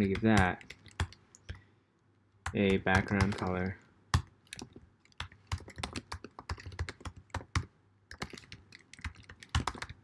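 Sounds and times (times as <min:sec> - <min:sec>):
typing on keyboard: 0:00.0 - 0:01.6, 0:02.4 - 0:10.0.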